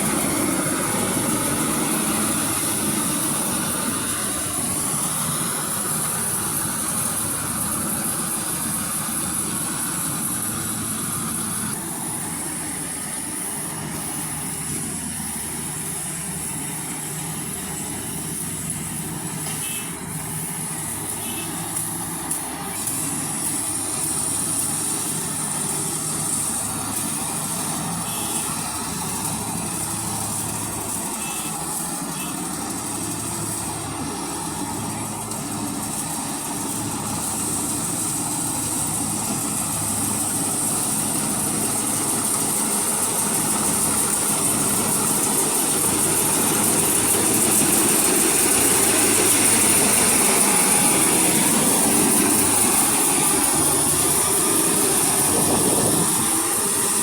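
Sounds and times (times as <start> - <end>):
combine harvester engine hum: 0.0 - 57.0.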